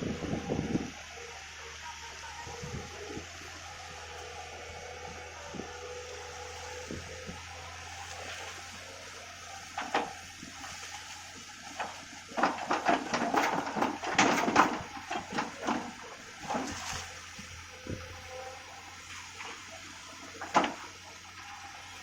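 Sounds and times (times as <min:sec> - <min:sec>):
water and mud splashing: 0:00.0 - 0:22.0.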